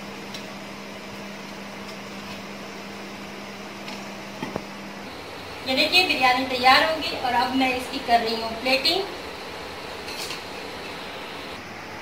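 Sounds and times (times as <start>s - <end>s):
appliance humming with hiss: 0.0s - 12.0s.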